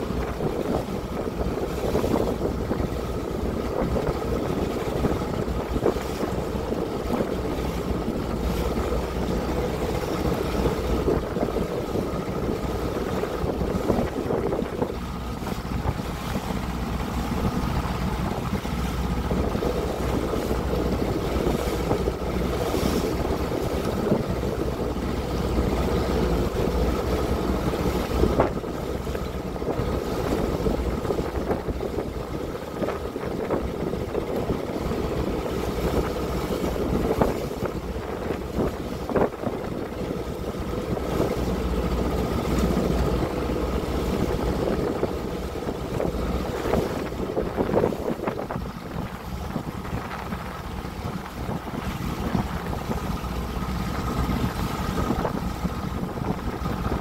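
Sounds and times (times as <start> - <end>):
boat engine running: 0.0 - 57.0
water rushing along hull: 0.0 - 57.0
water slapping against hull: 0.0 - 57.0
wind buffeting microphone: 0.0 - 57.0.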